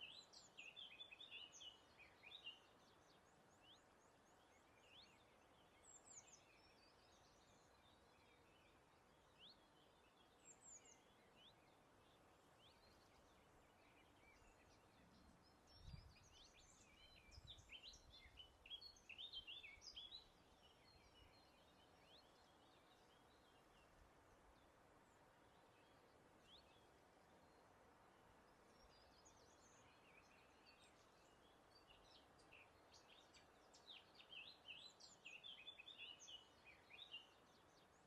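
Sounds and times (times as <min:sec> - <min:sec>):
small birds chirping: 0:00.0 - 0:38.0
soft hiss of breeze: 0:00.0 - 0:38.0.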